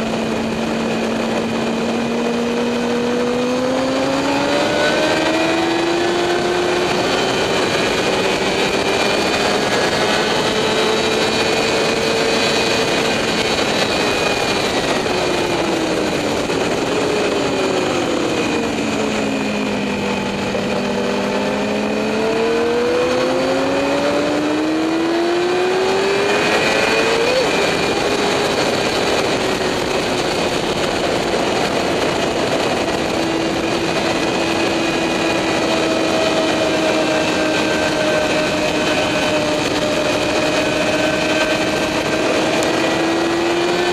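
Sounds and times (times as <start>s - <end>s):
motorcycle engine: 0.0s - 43.9s
wind rush: 0.0s - 43.9s.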